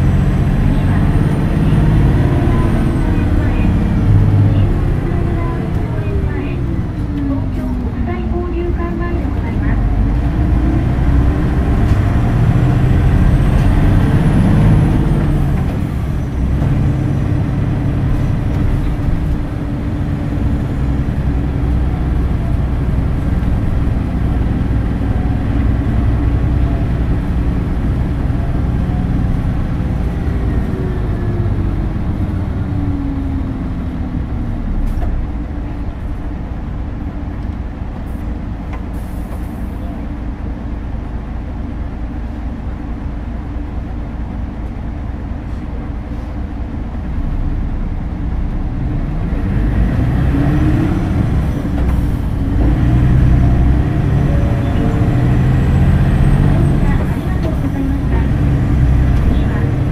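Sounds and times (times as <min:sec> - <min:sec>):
bus engine from inside: 0:00.0 - 0:59.9.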